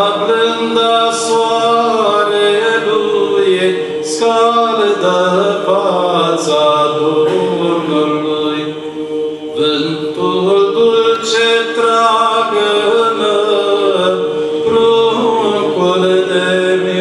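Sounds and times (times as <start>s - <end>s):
male choir singing a cappella: 0.0s - 17.0s.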